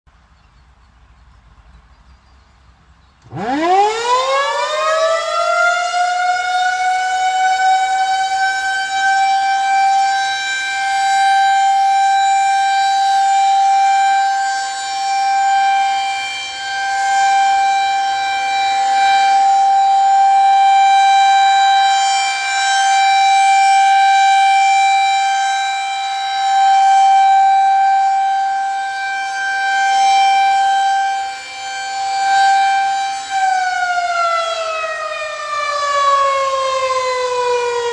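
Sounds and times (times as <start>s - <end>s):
rotating warning siren: 3.2s - 37.9s.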